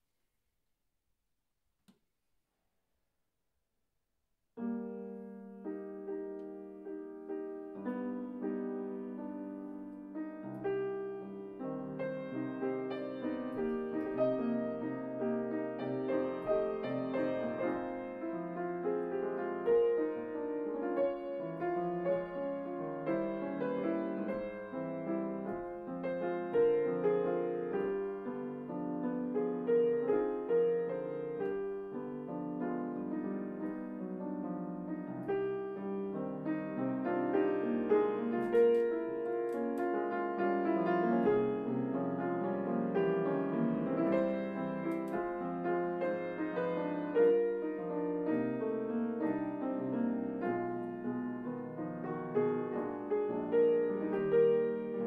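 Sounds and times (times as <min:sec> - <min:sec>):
classical piano solo: 0:04.6 - 0:55.0.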